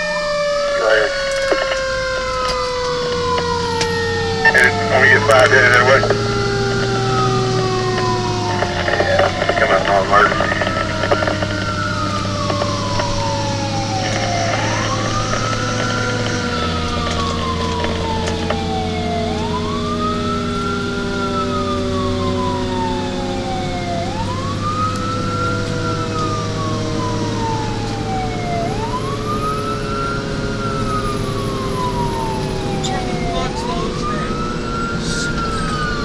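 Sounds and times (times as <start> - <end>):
fire engine siren wailing: 0.0 - 36.0
truck engine droning: 0.0 - 36.0.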